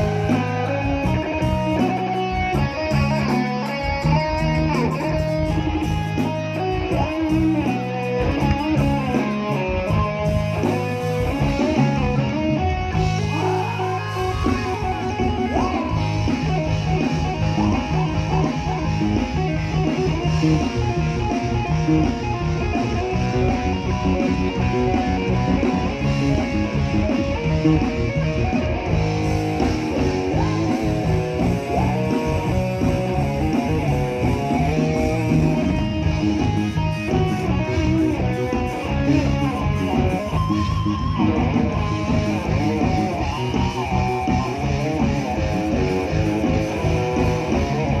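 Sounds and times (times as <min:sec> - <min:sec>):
electric guitar: 0:00.0 - 0:48.0
live band music: 0:00.0 - 0:48.0.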